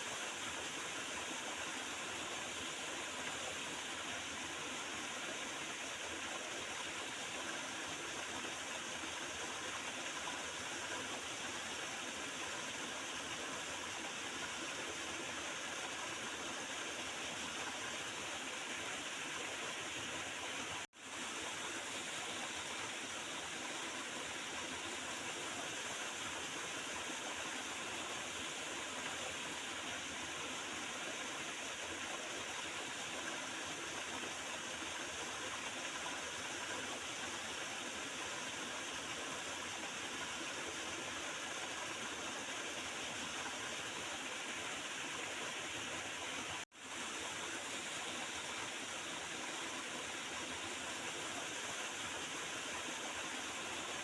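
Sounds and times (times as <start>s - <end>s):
small river gurgling and rushing: 0.0s - 54.0s.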